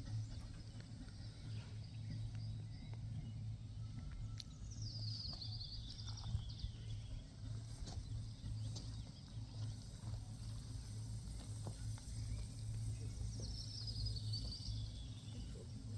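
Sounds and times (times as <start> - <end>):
low steady rumble: 0.0 - 15.9.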